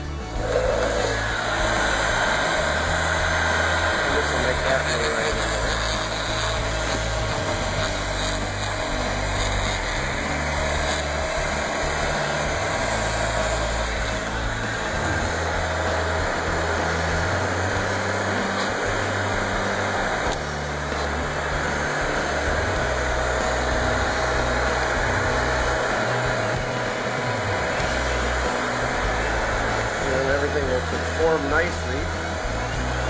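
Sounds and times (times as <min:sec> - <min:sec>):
heat gun blowing air: 0:00.0 - 0:33.0.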